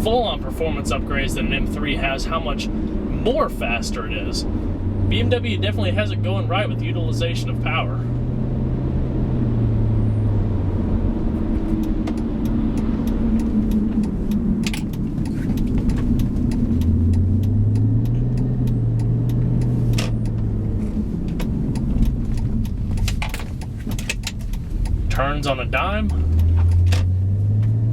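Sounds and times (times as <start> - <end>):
car engine running: 0.0 - 27.9
road noise: 0.0 - 27.9.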